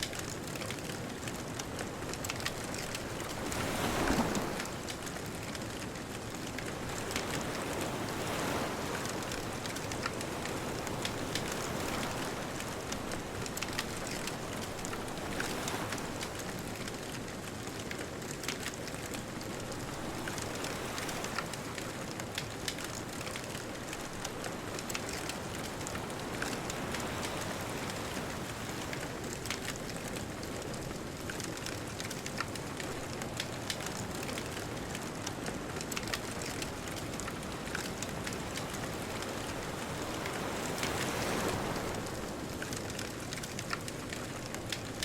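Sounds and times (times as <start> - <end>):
bonfire crackling and popping: 0.0 - 45.0
distant ocean surf: 1.5 - 45.0.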